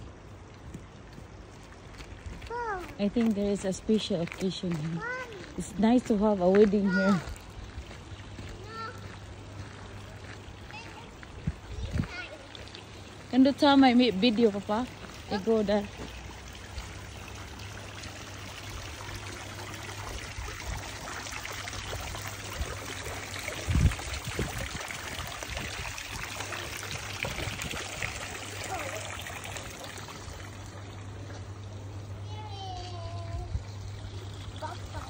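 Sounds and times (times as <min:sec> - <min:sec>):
fountain water splashing: 0:00.0 - 0:35.0.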